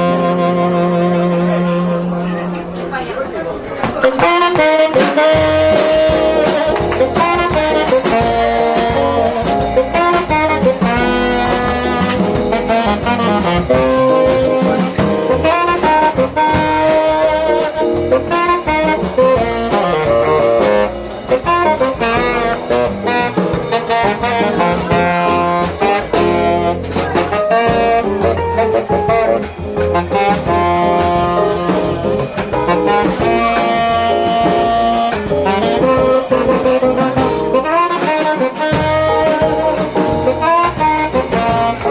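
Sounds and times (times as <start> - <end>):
saxophone melody: 0.0 - 3.1, 4.0 - 41.9
drum kit and rhythm section: 3.8 - 41.9.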